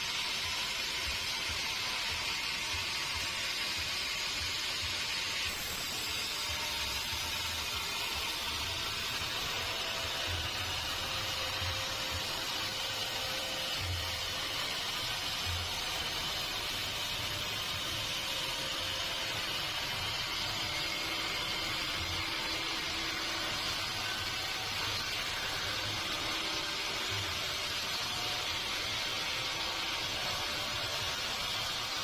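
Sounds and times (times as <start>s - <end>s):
sawmill machinery hiss: 0.0s - 32.0s.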